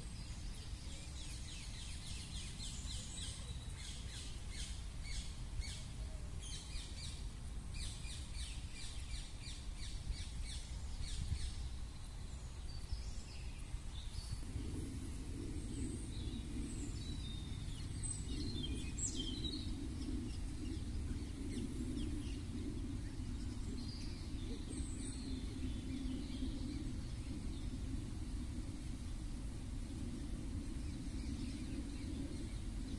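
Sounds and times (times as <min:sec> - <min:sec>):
low droning hum: 0:00.0 - 0:32.9
steady low rumble: 0:00.0 - 0:32.9.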